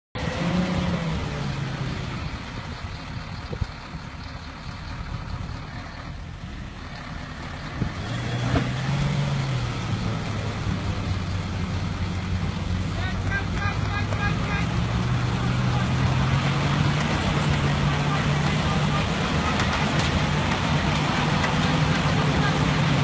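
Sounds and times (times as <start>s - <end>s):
vehicle engines revving under load: 0.2s - 23.0s.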